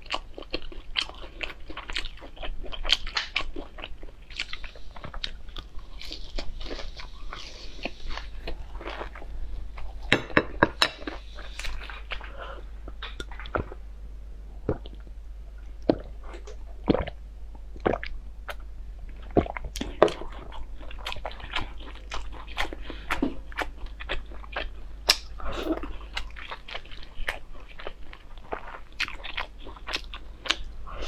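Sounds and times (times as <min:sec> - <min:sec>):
crunchy food chewing: 0:00.0 - 0:13.8, 0:15.7 - 0:31.0.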